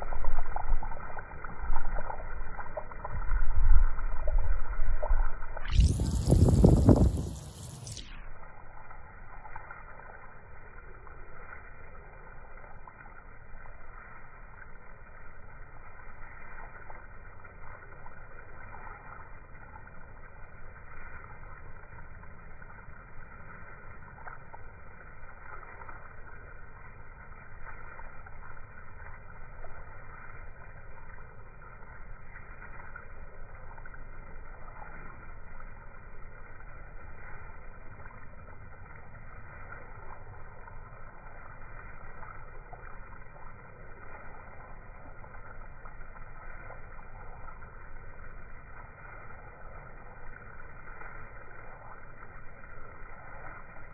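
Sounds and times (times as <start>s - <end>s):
slowed hose water spray: 0.0s - 53.9s.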